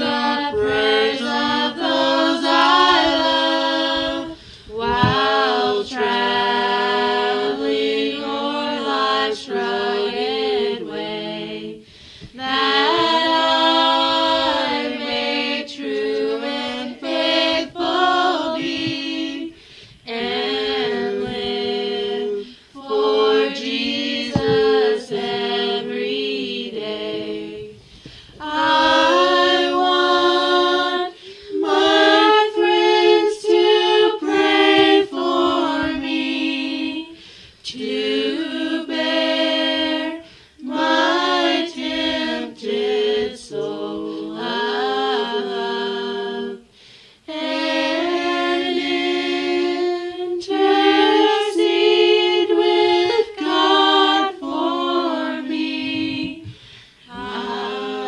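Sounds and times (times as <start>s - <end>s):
a cappella group singing a hymn: 0.0s - 58.0s.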